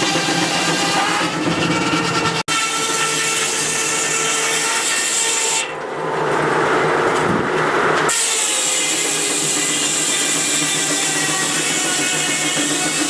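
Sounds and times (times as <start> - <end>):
circular saw blade running: 0.0 - 5.7, 8.1 - 13.0
saw blade rasping through log: 0.0 - 5.7, 8.1 - 13.0.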